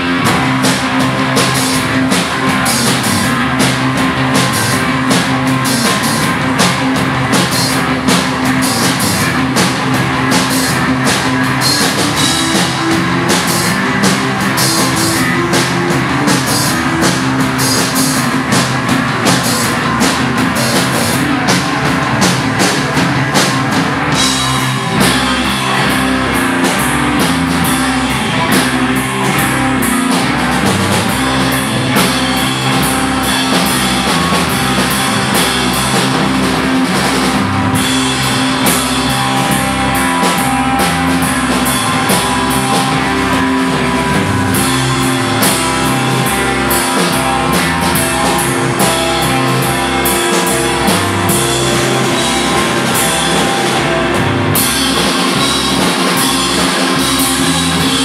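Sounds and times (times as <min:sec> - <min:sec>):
drum kit beat: 0:00.0 - 0:58.0
electric bass guitars: 0:00.0 - 0:58.0
electric guitar: 0:00.0 - 0:58.0.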